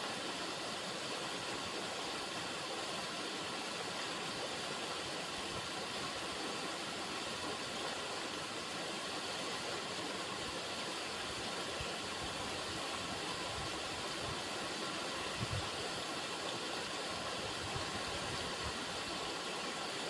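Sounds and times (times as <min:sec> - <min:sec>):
river water running: 0:00.0 - 0:20.0.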